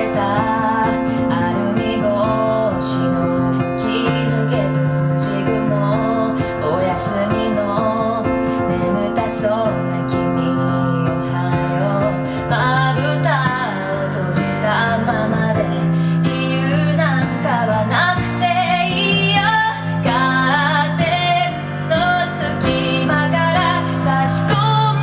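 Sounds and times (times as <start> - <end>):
piano chords: 0.0 - 25.0
woman singing pop ballad: 0.0 - 25.0.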